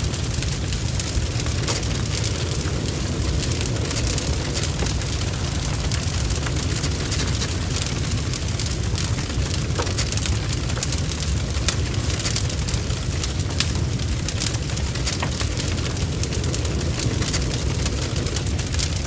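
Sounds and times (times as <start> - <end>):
fire crackling and spitting: 0.0 - 19.0
fire rumbling: 0.0 - 19.0.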